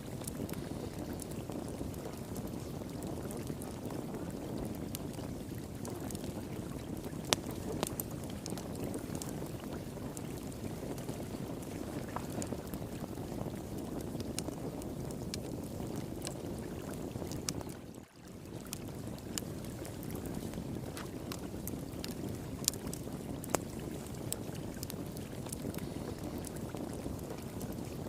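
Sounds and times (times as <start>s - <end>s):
fire crackling and popping: 0.0s - 28.0s
flowing water: 0.0s - 28.0s.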